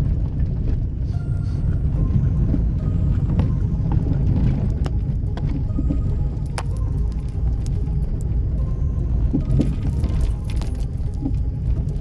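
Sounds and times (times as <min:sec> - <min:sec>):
car tyres rumbling on gravel: 0:00.0 - 0:12.0.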